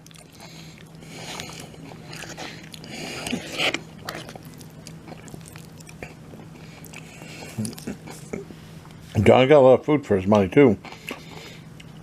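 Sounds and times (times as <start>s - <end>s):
person chewing food: 0.0s - 9.0s, 10.8s - 12.0s
steady low hum: 0.0s - 12.0s.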